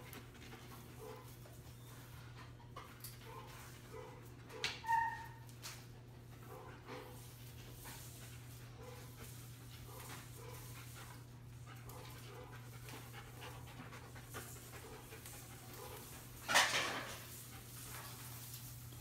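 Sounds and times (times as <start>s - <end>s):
dog panting: 0.0s - 4.6s, 5.8s - 18.6s.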